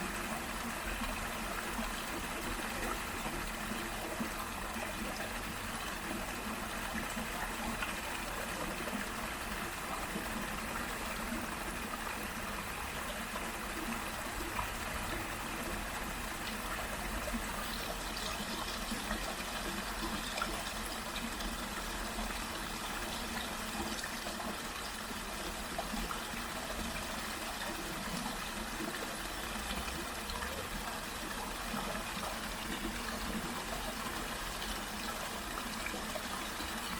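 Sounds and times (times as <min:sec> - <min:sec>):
small waterfall and stream: 0:00.0 - 0:36.9.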